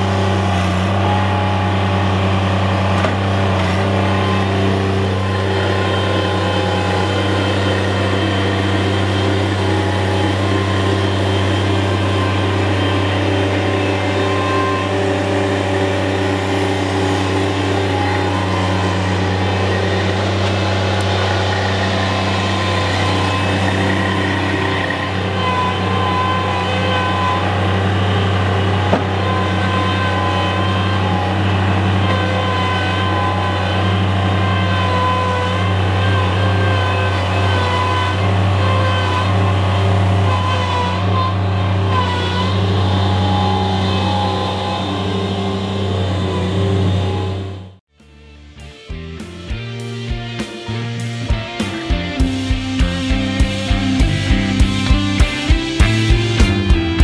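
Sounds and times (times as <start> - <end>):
loader engine running: 0.0 - 47.8, 48.7 - 57.0.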